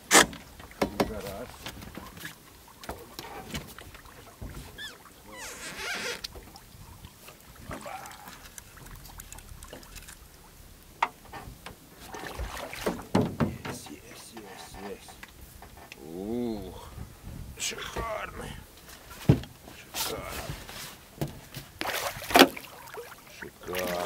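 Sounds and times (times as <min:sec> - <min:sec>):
oars knocking against boat: 0:00.0 - 0:09.9, 0:10.9 - 0:16.0, 0:17.0 - 0:22.9
oars splashing in water: 0:00.0 - 0:16.0, 0:17.7 - 0:24.0.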